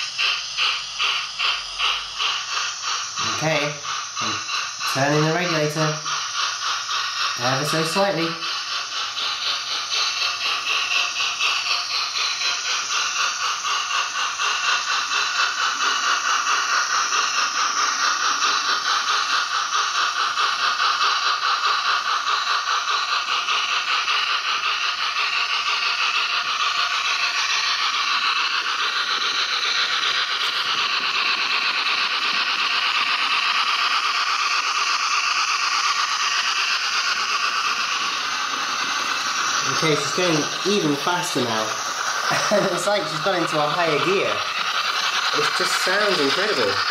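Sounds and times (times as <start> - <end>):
model steam exhaust chuffs: 0.0 - 46.9.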